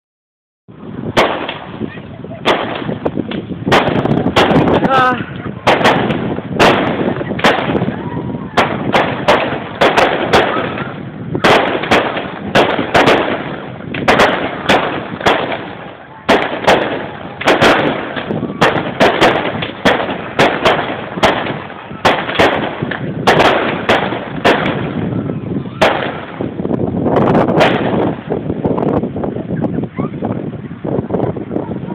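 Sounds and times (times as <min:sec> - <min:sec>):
fireworks banging: 0:00.7 - 0:31.9
fireworks crackle and echo: 0:00.7 - 0:31.9
steady rushing noise: 0:00.7 - 0:31.9.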